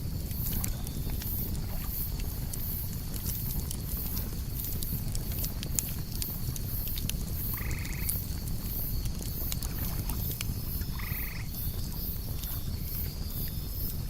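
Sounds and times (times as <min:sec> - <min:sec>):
campfire crackling: 0:00.0 - 0:14.0
crickets chirping: 0:00.0 - 0:14.0.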